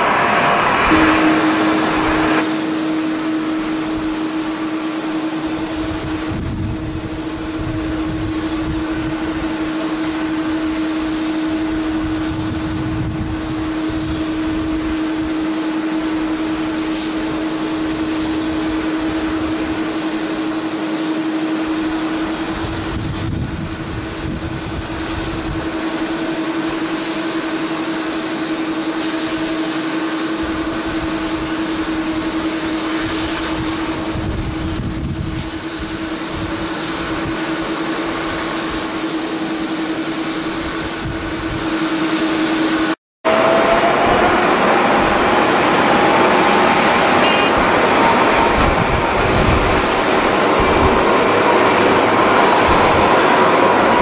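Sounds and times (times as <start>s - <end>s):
faint high engine whine: 0.0s - 54.0s
jet engines rushing: 0.0s - 54.0s.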